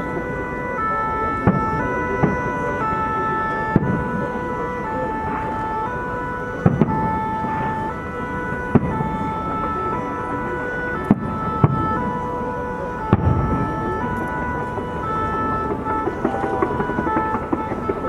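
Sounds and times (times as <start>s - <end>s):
music with long held chords: 0.0s - 18.0s.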